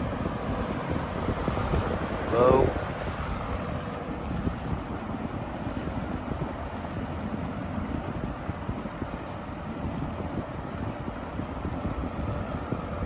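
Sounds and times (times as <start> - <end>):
box fan whirring: 0.0 - 13.0.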